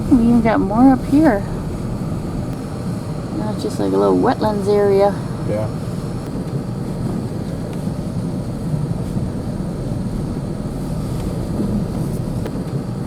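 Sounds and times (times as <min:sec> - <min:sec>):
truck engine and tyre rumble: 0:00.0 - 0:13.0.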